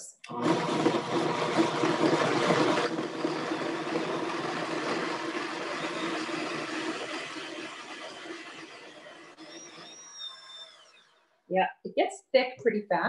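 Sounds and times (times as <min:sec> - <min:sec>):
blender running: 0:00.0 - 0:11.4.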